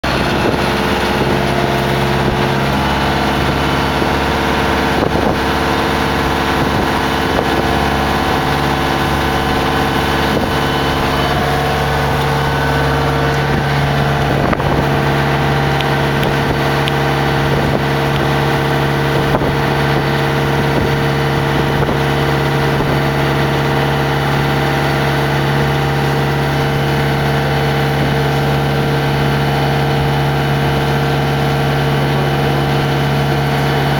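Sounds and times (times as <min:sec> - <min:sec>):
wind noise: 0:00.0 - 0:33.5
motorboat engine running: 0:00.0 - 0:33.9
water noise: 0:00.0 - 0:33.9.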